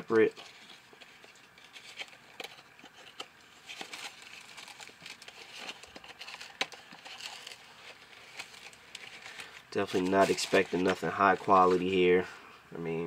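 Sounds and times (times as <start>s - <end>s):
paper crinkling and rustling: 0.0s - 12.2s.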